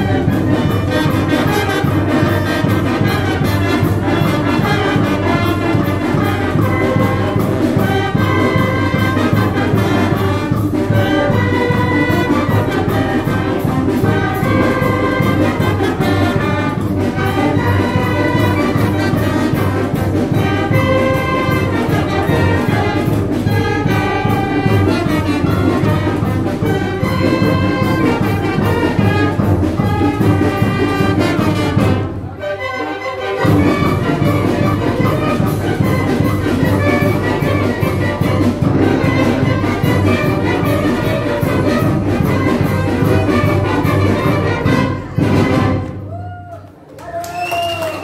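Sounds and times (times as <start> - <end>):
wind band playing: 0.0 - 46.2.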